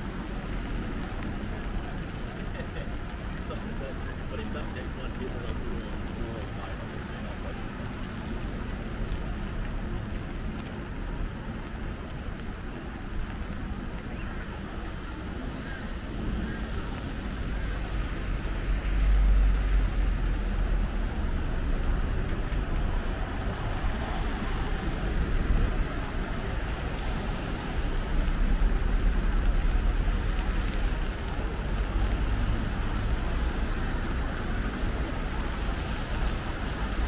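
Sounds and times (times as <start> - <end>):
passing traffic: 0.0 - 37.0
rain hissing: 0.0 - 37.0.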